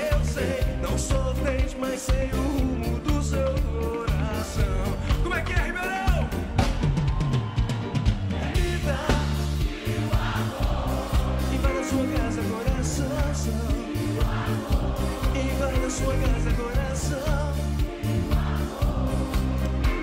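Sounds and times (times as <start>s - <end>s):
lead vocal singing: 0.0s - 6.6s, 8.0s - 20.0s
live band music: 0.0s - 20.0s.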